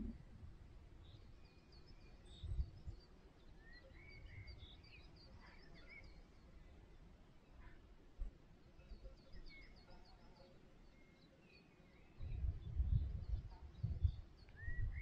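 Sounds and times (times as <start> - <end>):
small birds chirping: 1.0 - 7.9, 8.5 - 15.0.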